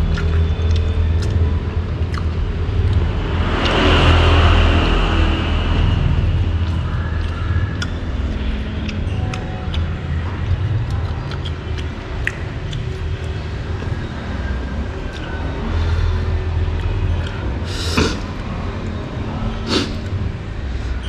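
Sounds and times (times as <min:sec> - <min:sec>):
road traffic hum: 0:00.0 - 0:21.0
vehicle passing with whine: 0:00.0 - 0:21.0.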